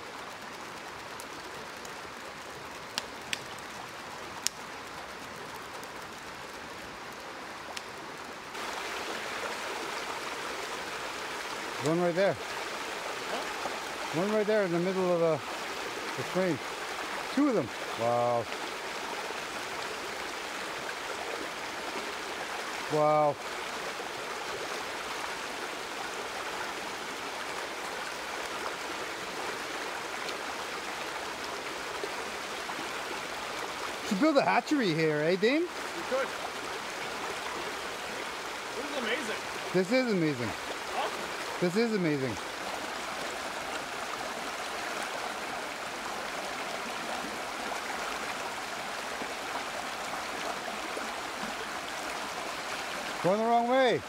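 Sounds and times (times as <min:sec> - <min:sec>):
creek water rushing: 0:00.0 - 0:54.0.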